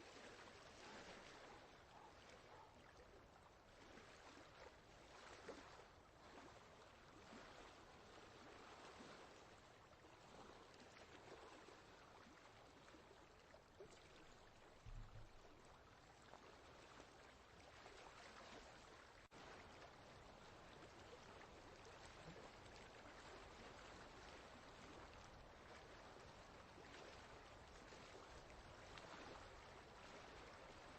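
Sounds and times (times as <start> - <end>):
stream trickling and splashing: 0.0 - 30.9.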